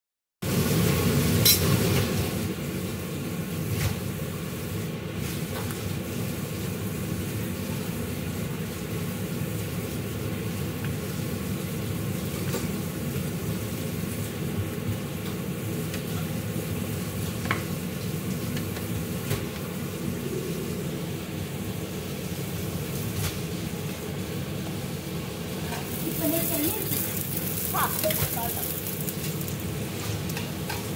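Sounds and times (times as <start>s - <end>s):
kitchen background hum: 0.4s - 30.9s.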